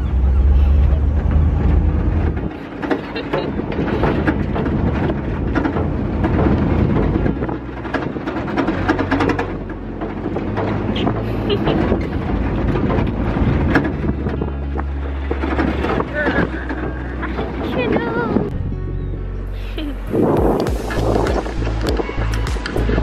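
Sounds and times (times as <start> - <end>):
boat engine rumble: 0.0 - 23.0
wind buffeting microphone: 0.0 - 23.0.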